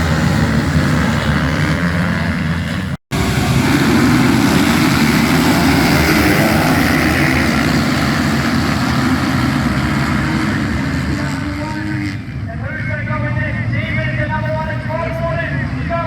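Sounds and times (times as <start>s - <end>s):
motocross bikes racing: 0.0s - 16.0s.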